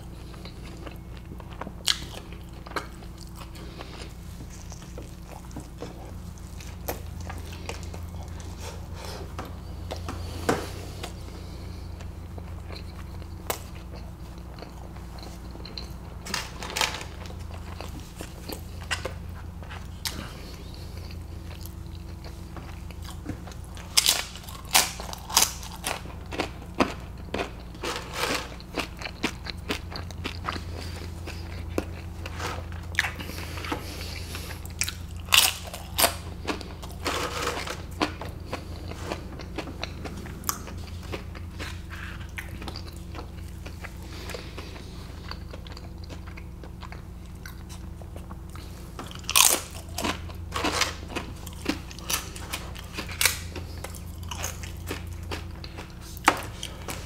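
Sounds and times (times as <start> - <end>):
crisp chips being chewed: 0.0 - 57.0
steady low hum: 0.0 - 57.0.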